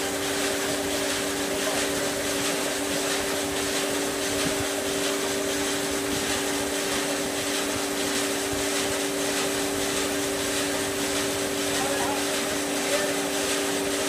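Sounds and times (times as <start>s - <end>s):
band sawmill humming: 0.0s - 14.0s.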